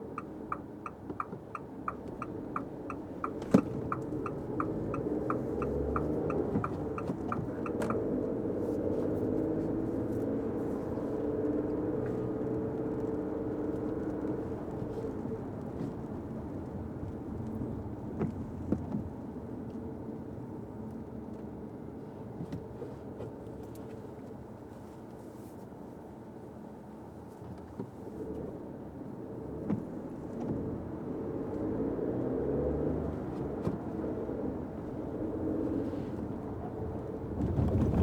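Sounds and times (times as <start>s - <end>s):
car driving on wet road: 0.0s - 38.0s.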